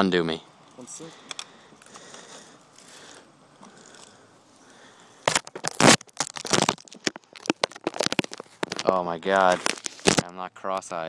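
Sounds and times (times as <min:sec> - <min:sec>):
crackling and scraping at microphone: 0:01.4 - 0:10.9.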